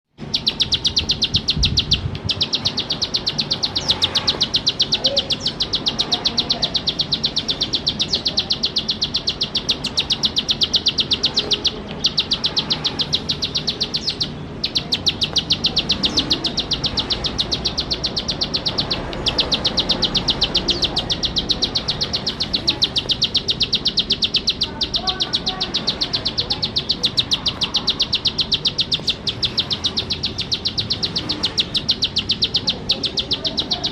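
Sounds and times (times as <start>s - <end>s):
bird ticking trill: 0.0s - 33.9s.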